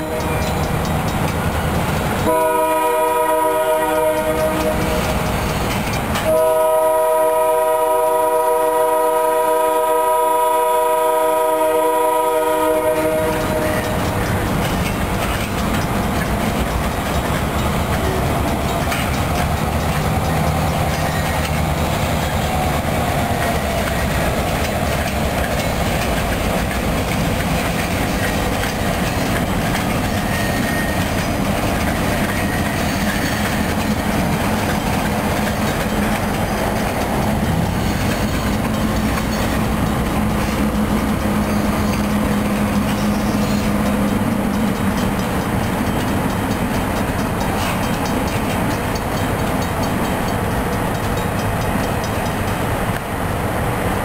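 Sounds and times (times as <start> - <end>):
diesel locomotive hum: 0.0 - 54.0
train wheels clicking over rail joints: 0.0 - 54.0.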